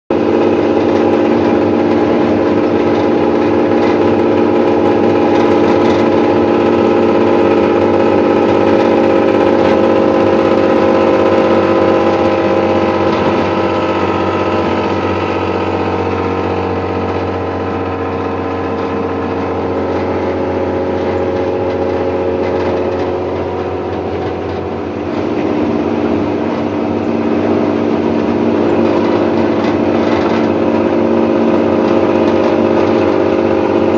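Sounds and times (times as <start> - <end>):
diesel bus engine running: 0.1 - 33.9.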